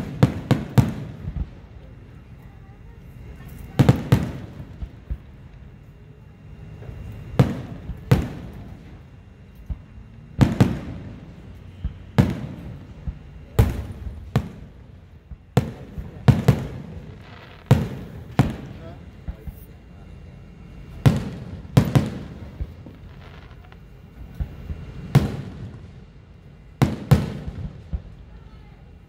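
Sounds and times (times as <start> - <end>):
fireworks booming: 0.0 - 2.2, 3.3 - 5.7, 6.7 - 20.1, 20.8 - 29.0.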